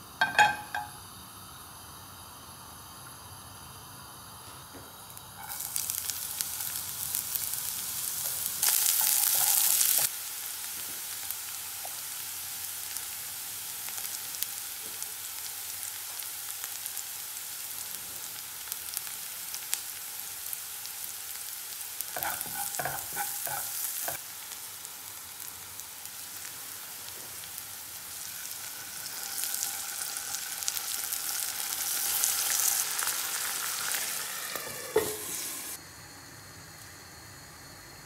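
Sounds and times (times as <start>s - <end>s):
onion sizzling in oil: 0.0s - 35.9s.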